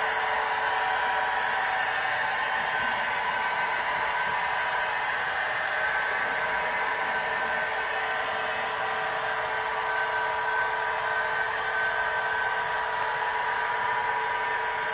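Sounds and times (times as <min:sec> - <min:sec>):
model train motor whining: 0:00.0 - 0:14.9.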